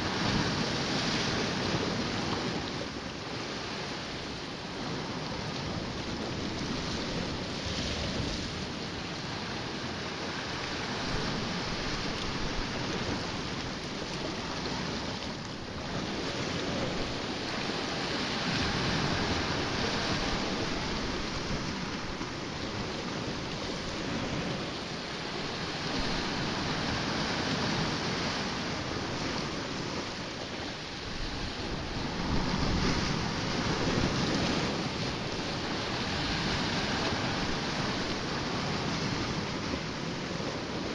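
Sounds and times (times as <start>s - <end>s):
sea surf on rocky shore: 0.0s - 40.9s
wind buffeting microphone: 0.0s - 40.9s.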